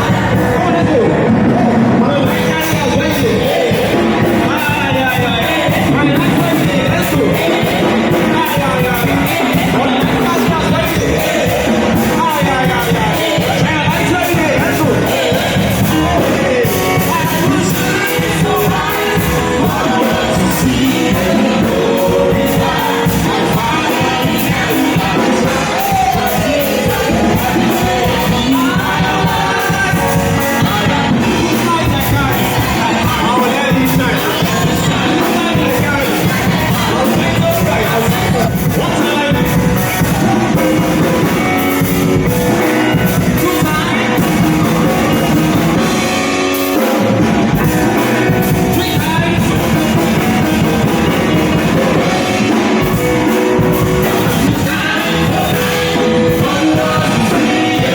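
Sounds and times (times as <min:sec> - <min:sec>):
worship band music with singing: 0:00.0 - 0:57.9.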